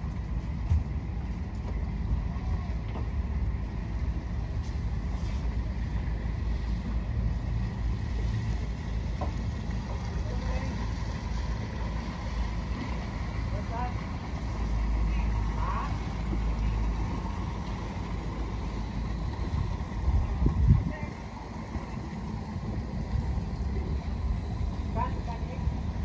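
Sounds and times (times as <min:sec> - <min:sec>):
speedboat engine rumbling: 0:00.0 - 0:26.0.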